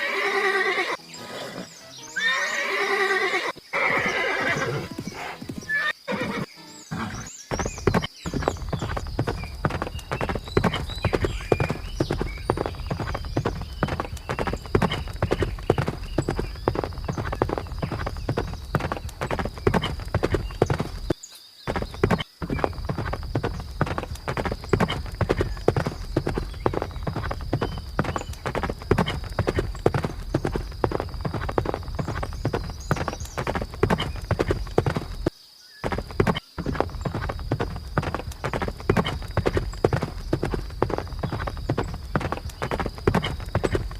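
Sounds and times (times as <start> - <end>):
horse hooves beating rapidly: 2.8 - 43.9.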